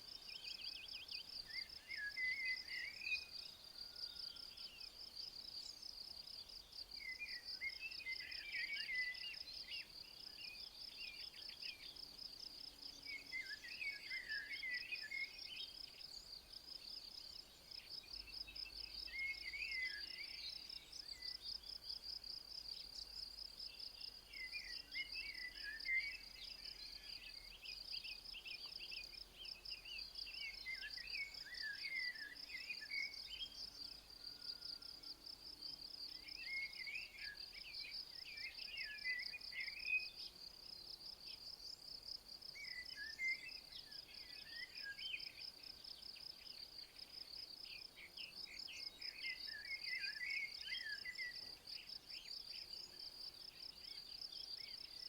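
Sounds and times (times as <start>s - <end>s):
bird song: 0.0s - 55.0s.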